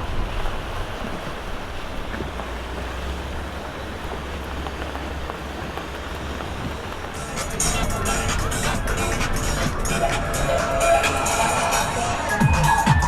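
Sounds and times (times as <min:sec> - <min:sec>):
boat engines rumbling: 0:00.0 - 0:13.0
water washing: 0:00.0 - 0:13.0
wind on microphone: 0:00.0 - 0:13.0.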